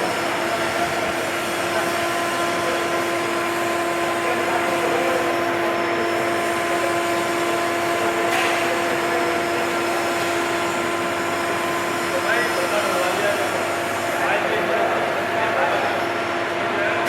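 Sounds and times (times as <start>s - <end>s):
large fan running: 0.0s - 17.0s.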